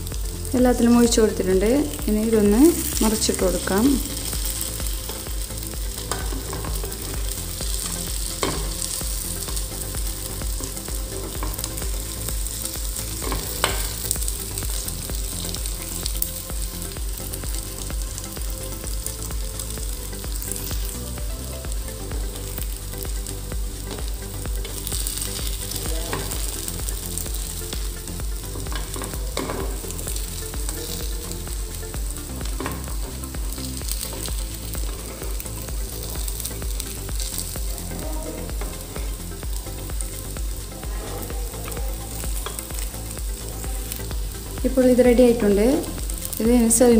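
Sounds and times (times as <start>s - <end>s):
fritters sizzling in hot oil: 0.0s - 46.9s.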